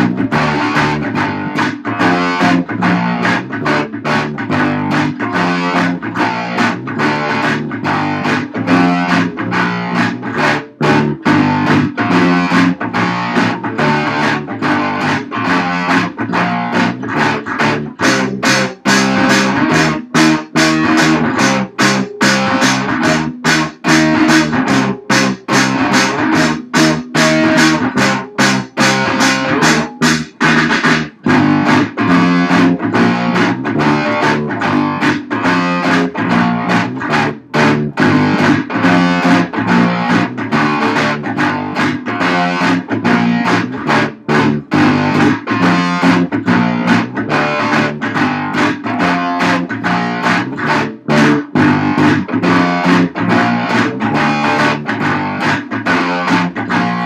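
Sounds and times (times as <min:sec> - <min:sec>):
rock music on guitars: 0:00.0 - 0:57.0.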